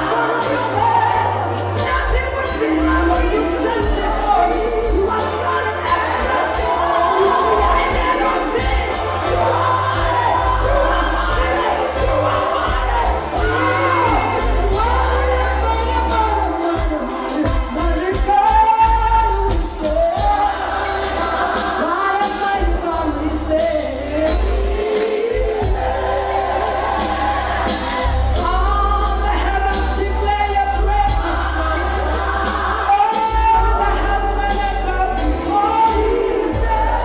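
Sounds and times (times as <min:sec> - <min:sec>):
woman singing into microphone: 0:00.0 - 0:27.3, 0:27.9 - 0:37.0
band with heavy bass and drums: 0:00.0 - 0:37.0
choir singing: 0:00.0 - 0:37.0.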